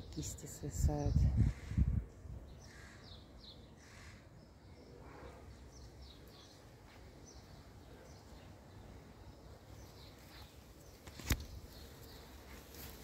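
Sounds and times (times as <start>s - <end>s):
distant birds chirping: 1.0s - 13.0s.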